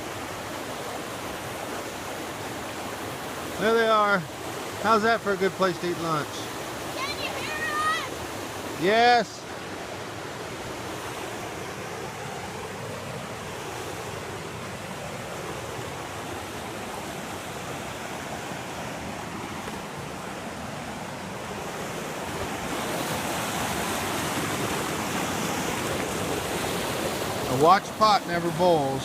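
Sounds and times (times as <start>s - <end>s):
creek water rushing: 0.0s - 29.0s.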